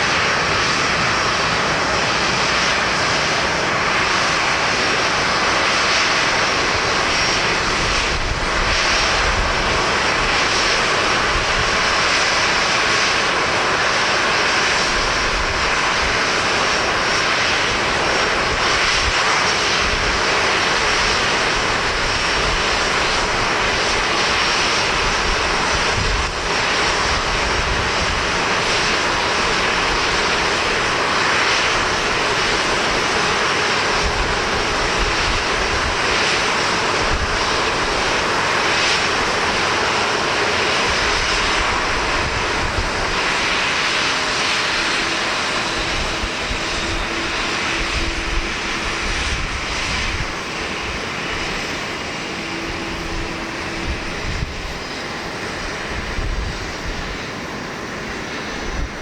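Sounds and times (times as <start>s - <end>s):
jet engines at takeoff thrust: 0.0s - 59.0s
wind rumbling on microphone: 0.0s - 59.0s.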